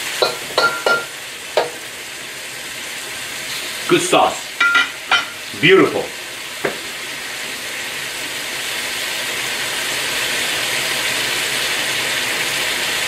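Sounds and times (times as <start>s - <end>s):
sauce sizzling in a wok: 0.0s - 13.0s.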